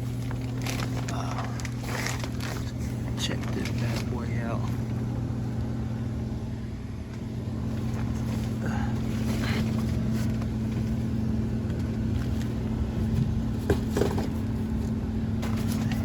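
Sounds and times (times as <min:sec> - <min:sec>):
motor hum: 0:00.0 - 0:16.0.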